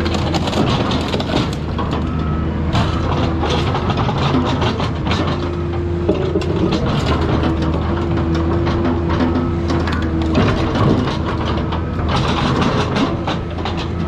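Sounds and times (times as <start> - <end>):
excavator engine humming: 0.0 - 14.0.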